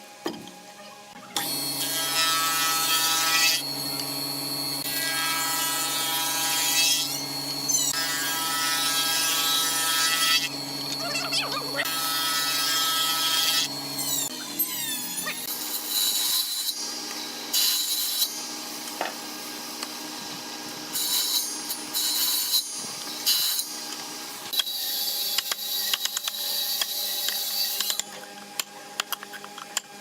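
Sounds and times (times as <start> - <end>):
power tool motor whine: 1.4 - 28.1.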